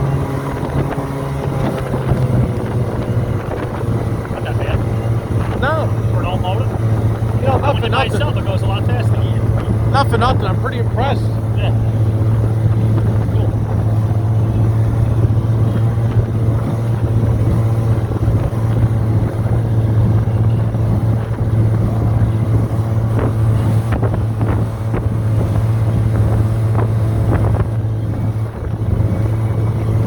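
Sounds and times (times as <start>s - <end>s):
motorboat engine droning: 0.0s - 30.0s
wind buffeting microphone: 0.0s - 30.0s.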